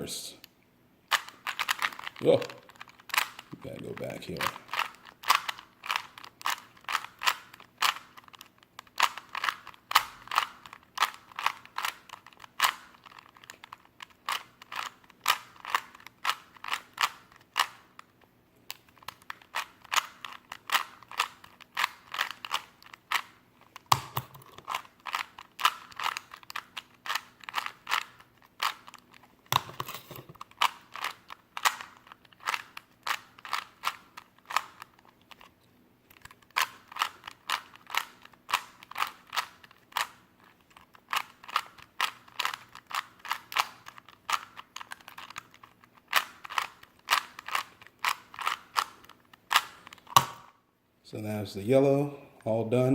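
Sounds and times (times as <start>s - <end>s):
puzzle cube layers clicking: 1.1s - 18.0s, 18.7s - 35.5s, 36.2s - 50.4s.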